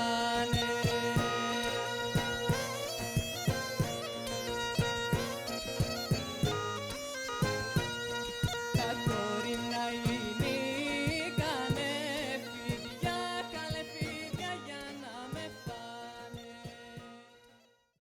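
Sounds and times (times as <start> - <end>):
bagpipe melody over drone: 0.0 - 17.7.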